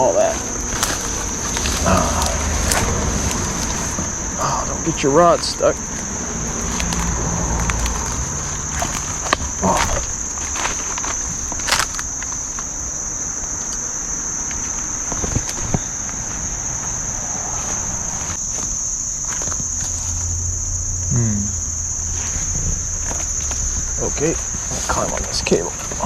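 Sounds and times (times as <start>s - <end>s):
crunches of scrambling through brush: 0.0s - 20.1s, 22.2s - 26.0s
insects trilling: 0.0s - 26.0s.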